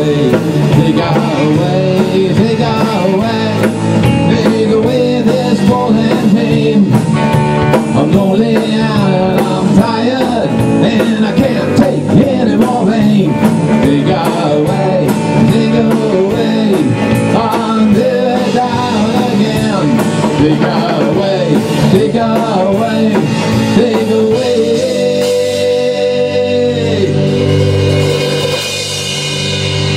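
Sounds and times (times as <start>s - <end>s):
rock band playing live: 0.0s - 29.9s.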